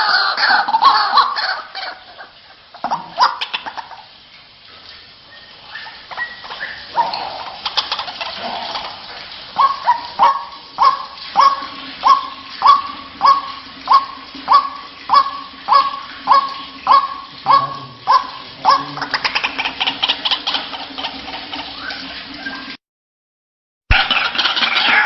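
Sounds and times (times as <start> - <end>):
waterhen calling: 0.0 - 22.8, 23.9 - 25.0.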